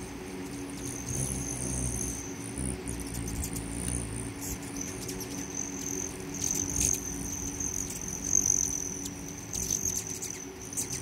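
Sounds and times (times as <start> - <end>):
hummingbird chips: 0.4 - 11.0.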